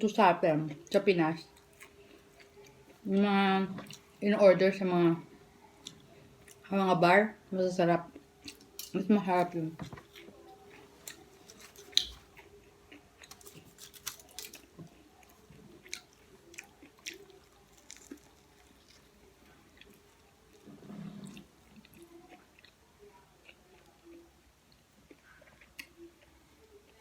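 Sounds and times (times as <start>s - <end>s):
person chewing food: 0.6s - 3.1s, 3.8s - 4.2s, 5.7s - 6.6s, 8.1s - 27.0s.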